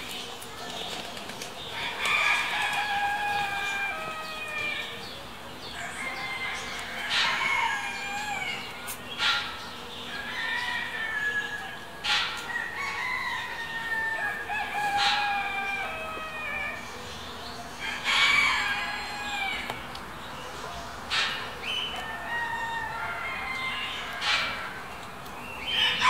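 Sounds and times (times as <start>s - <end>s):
roosters crowing: 1.6s - 9.3s, 9.9s - 25.0s, 25.6s - 26.0s.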